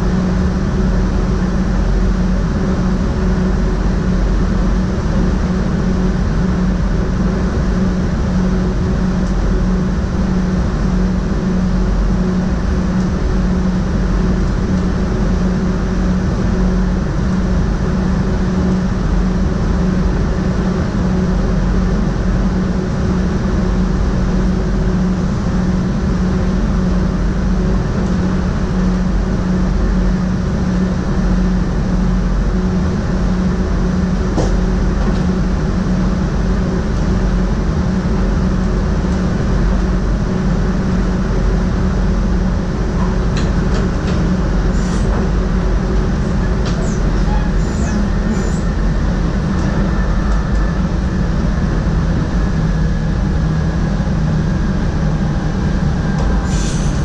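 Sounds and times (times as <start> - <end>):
steady low hum: 0.0 - 57.0
train wheels rumbling on track: 0.0 - 57.0.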